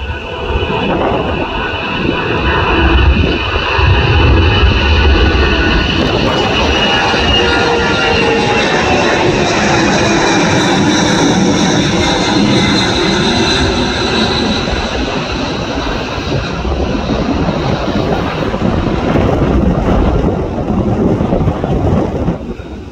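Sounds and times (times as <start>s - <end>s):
deep rumble: 0.0s - 22.9s
high engine whine: 0.0s - 22.9s
jet engines roaring overhead: 0.0s - 22.9s.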